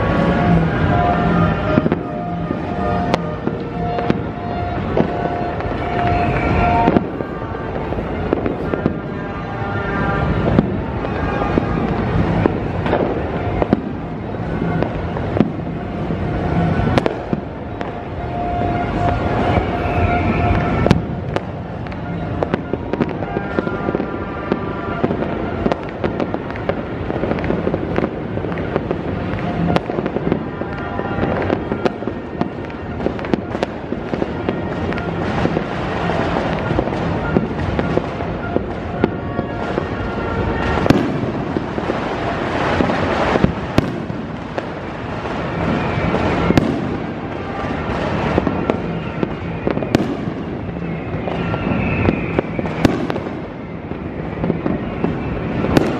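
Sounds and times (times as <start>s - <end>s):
fireworks cracks and bangs: 0.0s - 55.9s.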